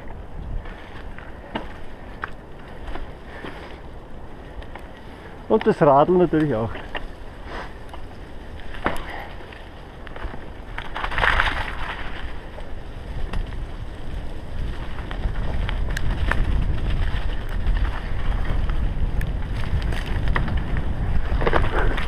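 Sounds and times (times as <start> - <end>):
bike clicks and rattles: 0.0 - 22.0
wind rushing over microphone: 0.0 - 22.0.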